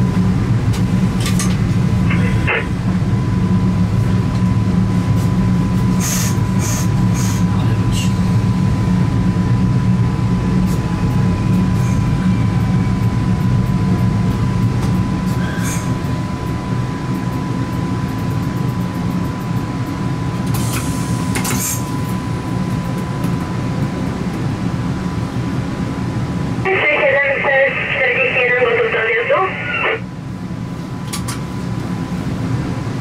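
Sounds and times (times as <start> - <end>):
steady low drone: 0.0 - 33.0.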